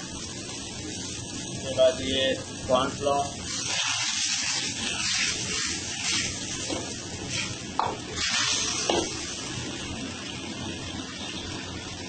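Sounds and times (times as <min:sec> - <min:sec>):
gravy hissing and bubbling: 0:00.0 - 0:12.0.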